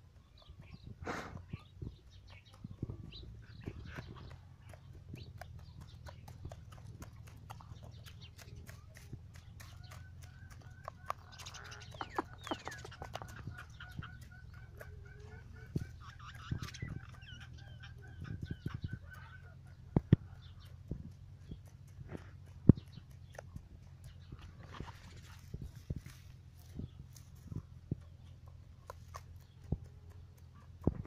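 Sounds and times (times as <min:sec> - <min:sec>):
chicken clucking softly: 0:00.0 - 0:31.0
rooster pecking at ground: 0:00.1 - 0:31.0.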